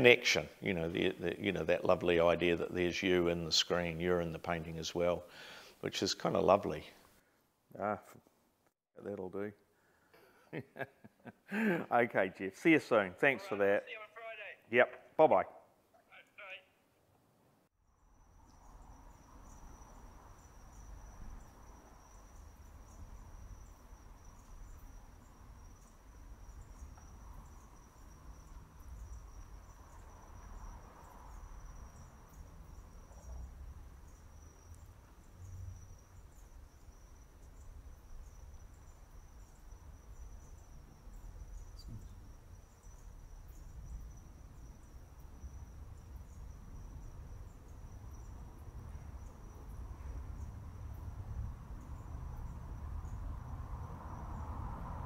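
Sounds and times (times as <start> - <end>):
crickets chirping: 0.0 - 7.2, 9.7 - 16.8, 17.8 - 55.0.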